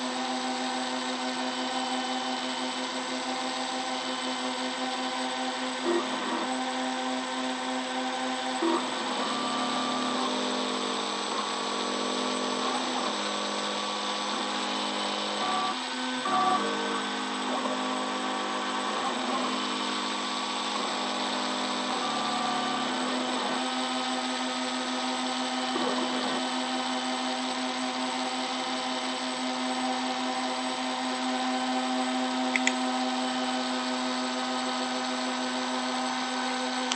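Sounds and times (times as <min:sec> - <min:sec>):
router spindle whine: 0:00.0 - 0:36.9.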